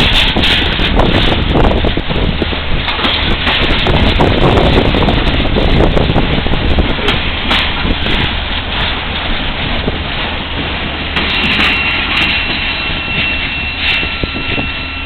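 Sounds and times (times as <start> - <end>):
freight train rumbling and clattering: 0.0 - 15.0
wind buffeting microphone: 0.0 - 15.0.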